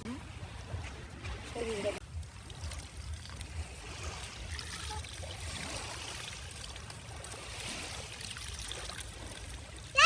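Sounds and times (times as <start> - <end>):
shallow sea water washing: 0.2 - 10.0.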